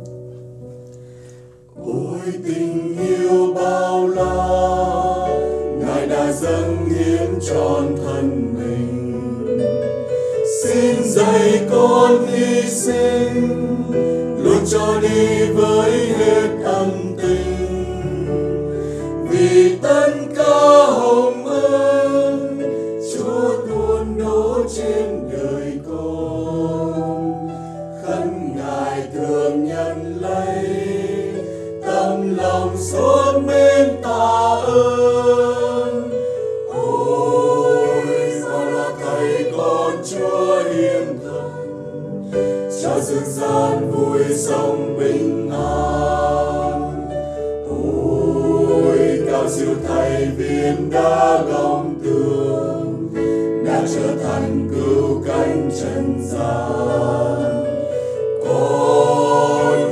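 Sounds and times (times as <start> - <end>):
choir singing: 1.8 - 59.9.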